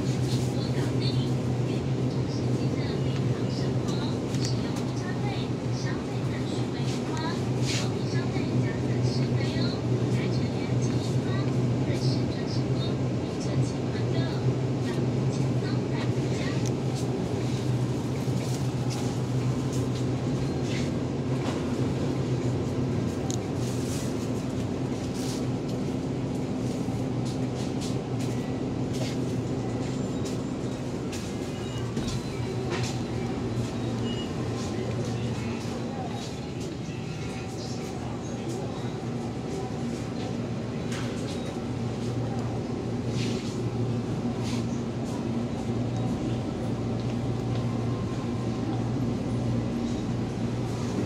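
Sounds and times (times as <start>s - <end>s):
refrigeration and ventilation hum: 0.0s - 51.0s.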